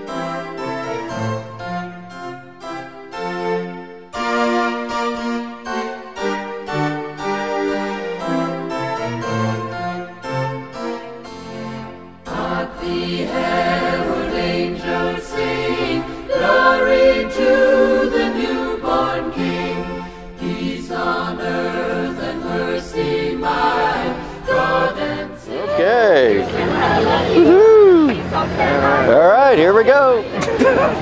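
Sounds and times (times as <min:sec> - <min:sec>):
choir singing with accompaniment: 0:00.0 - 0:31.0.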